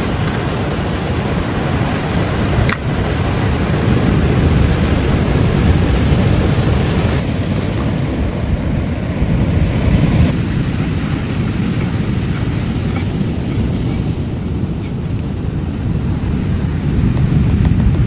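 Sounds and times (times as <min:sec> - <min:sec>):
ocean surf rushing: 0:00.0 - 0:18.0
wind buffeting microphone: 0:00.0 - 0:18.0.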